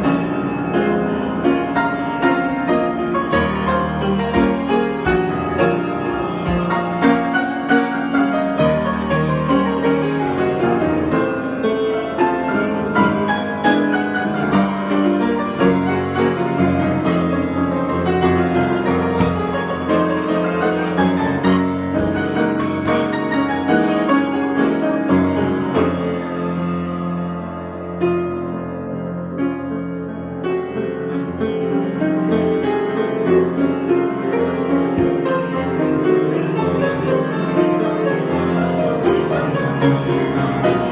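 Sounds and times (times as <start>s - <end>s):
piano improvisation: 0.0s - 40.9s.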